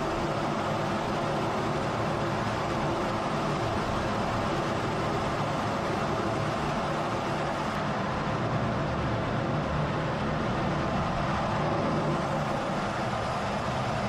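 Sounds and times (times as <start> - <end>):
jet engine and airflow rushing: 0.0 - 14.0.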